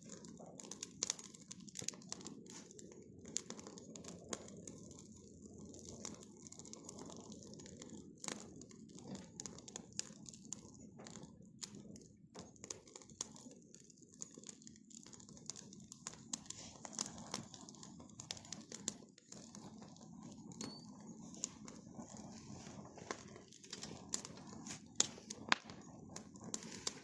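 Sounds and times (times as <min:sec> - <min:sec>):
bonfire crackling: 0:00.0 - 0:27.0
low rushing of fire: 0:00.0 - 0:27.0.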